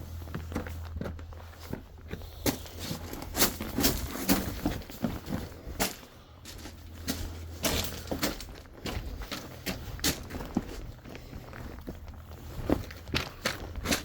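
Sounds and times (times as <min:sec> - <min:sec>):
footsteps crunching on rocks: 0:00.0 - 0:14.0.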